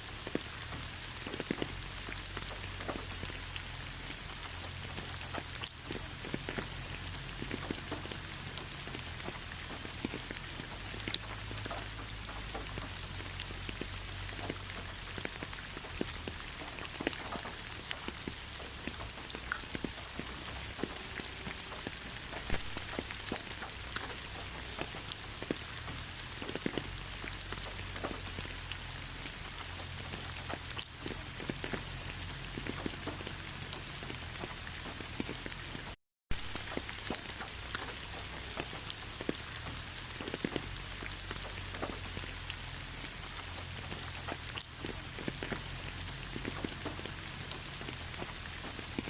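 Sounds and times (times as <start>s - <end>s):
raindrops ticking on a surface: 0.0s - 49.0s
steady rain falling: 0.0s - 49.0s.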